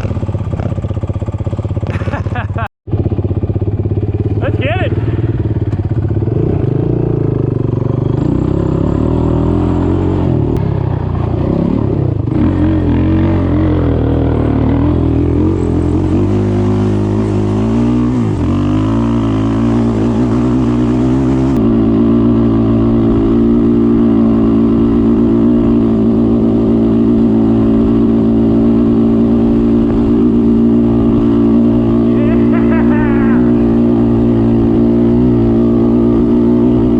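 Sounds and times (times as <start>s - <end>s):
off-road vehicle engine: 0.0s - 36.9s.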